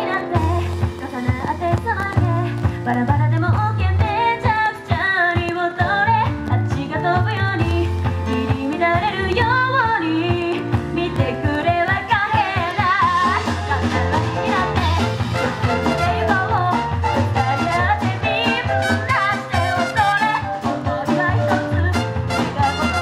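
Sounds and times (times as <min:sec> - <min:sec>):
band with steady bass line: 0:00.0 - 0:23.0
woman singing into a microphone: 0:00.0 - 0:23.0.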